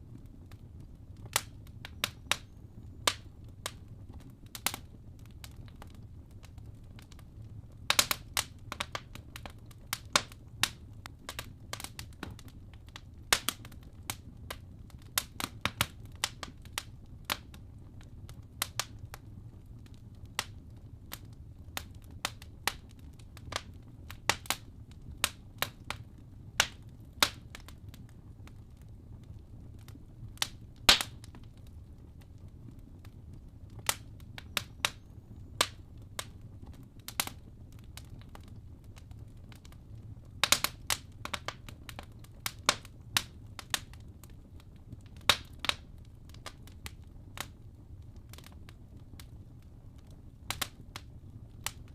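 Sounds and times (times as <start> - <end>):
log fire crackling and popping: 0.0 - 51.9
low rumble of flames: 0.0 - 51.9.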